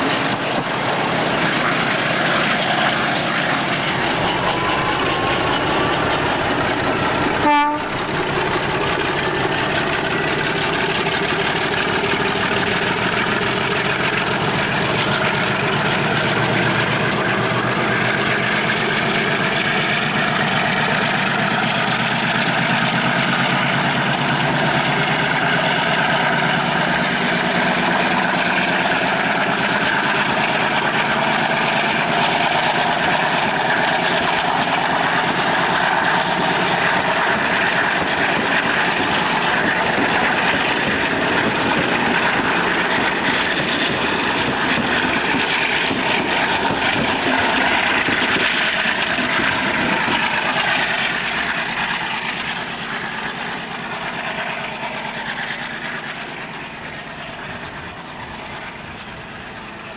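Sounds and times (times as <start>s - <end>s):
locomotive engine working hard: 0.0s - 59.9s.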